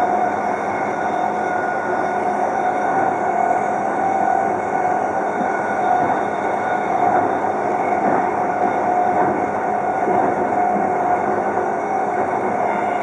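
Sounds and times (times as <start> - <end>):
traction motor whine: 0.0 - 13.0
train wheels rolling on rails: 0.0 - 13.0.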